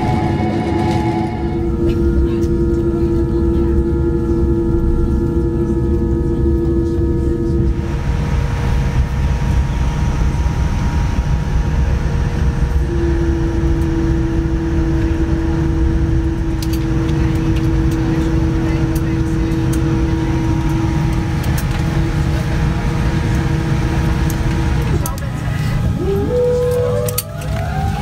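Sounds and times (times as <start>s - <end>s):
airliner cabin rumble: 0.0s - 28.0s
jet engine whine: 0.0s - 28.0s.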